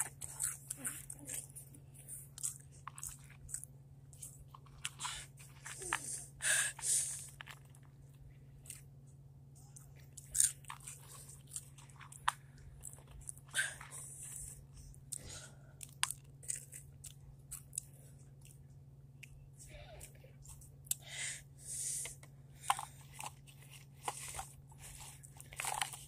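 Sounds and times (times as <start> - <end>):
person chewing crunchy chips: 0.0 - 7.9, 9.7 - 18.6, 21.9 - 26.0.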